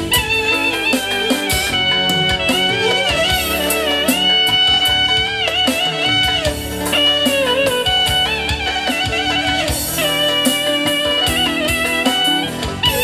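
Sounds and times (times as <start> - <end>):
bass: 0.0 - 13.0
clarinet melody: 0.0 - 13.0
electric guitar lead: 0.0 - 13.0
hand drum beats: 0.0 - 13.0
keyboard: 0.0 - 13.0.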